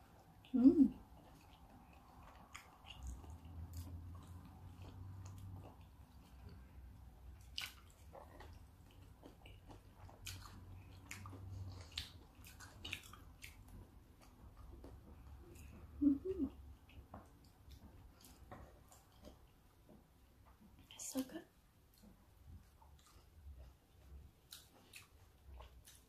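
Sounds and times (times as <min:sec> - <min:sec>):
wet chewing mouth sounds: 0:00.0 - 0:21.0, 0:21.8 - 0:26.0.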